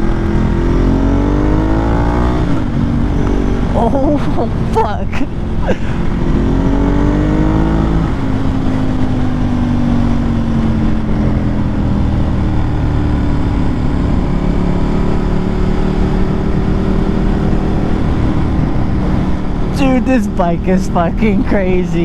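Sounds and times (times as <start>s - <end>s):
motorcycle engine revving: 0.0s - 4.7s, 5.3s - 22.0s.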